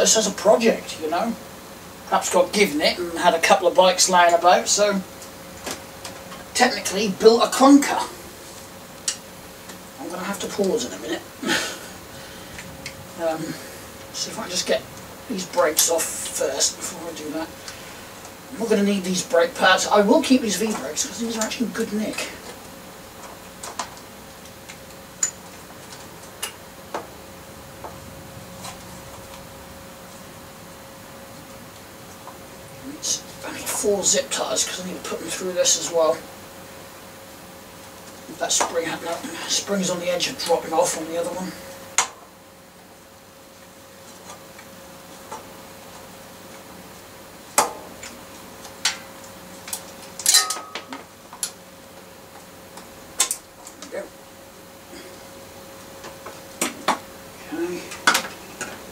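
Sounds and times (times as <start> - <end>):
faint steady hum: 0.0 - 58.9.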